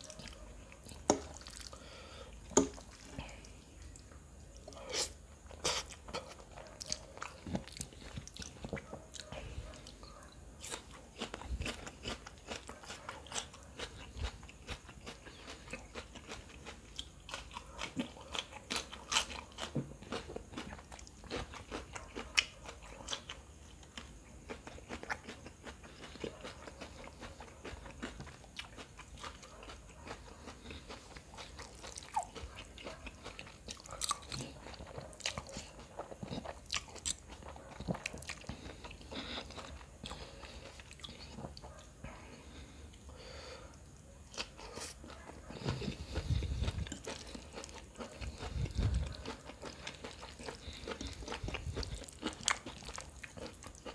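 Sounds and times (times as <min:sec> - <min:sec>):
person chewing crunchy food: 0:00.0 - 0:53.9.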